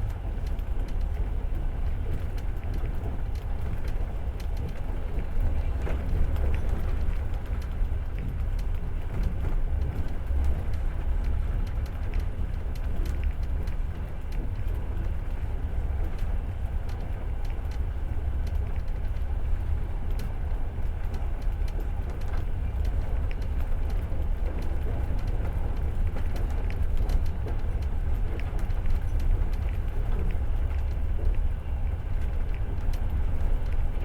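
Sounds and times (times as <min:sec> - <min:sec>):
light clicks and rattles: 0:00.0 - 0:34.0
train wheels rumbling on rail: 0:00.0 - 0:34.0.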